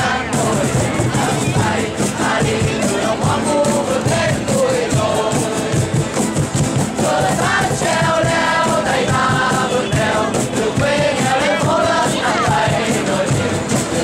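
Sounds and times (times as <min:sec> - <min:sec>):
acoustic guitars strummed: 0:00.0 - 0:14.0
crowd singing in unison: 0:00.0 - 0:14.0.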